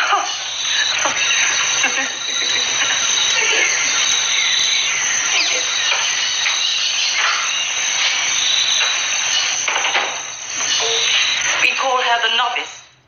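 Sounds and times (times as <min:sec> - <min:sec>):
insect chorus buzzing: 0:00.0 - 0:11.8.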